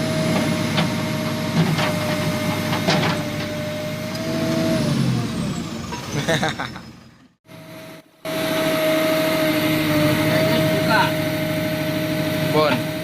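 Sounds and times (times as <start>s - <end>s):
backhoe engine whining: 0.0s - 13.0s.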